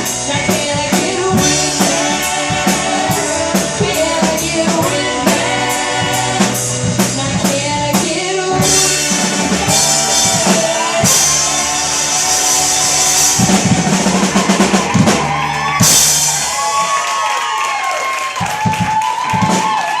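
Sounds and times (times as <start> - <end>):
bass guitar: 0.0 - 17.0
drum kit with cymbal crashes: 0.0 - 17.0.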